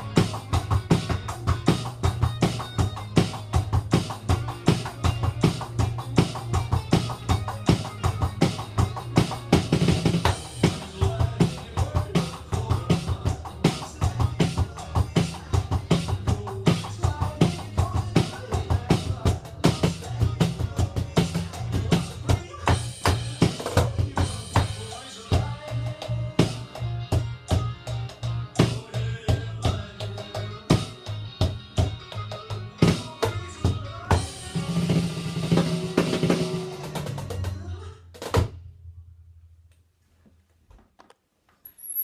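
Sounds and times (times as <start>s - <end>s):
backing track with bass line: 0.0s - 37.8s
electronic drum kit rock beat: 0.0s - 38.6s.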